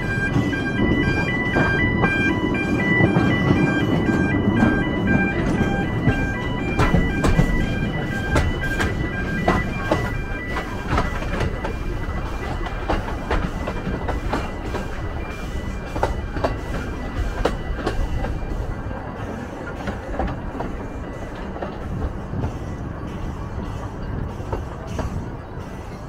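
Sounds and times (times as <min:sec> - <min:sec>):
train rumbling along track: 0:00.0 - 0:26.0
wheels clicking over rail joints: 0:00.0 - 0:26.0.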